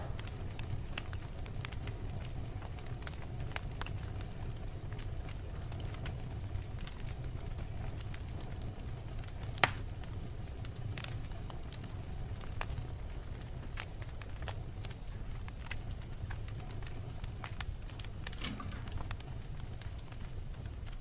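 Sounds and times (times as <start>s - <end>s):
logs crackling in sharp snaps: 0.0s - 21.0s
low fire rumble: 0.0s - 21.0s.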